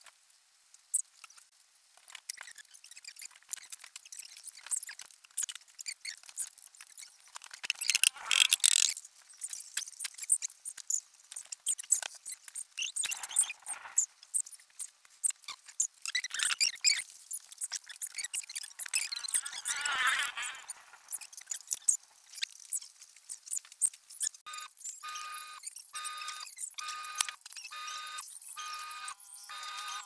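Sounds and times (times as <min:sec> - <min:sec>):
metallic clicks and squeaks: 0:00.9 - 0:30.0.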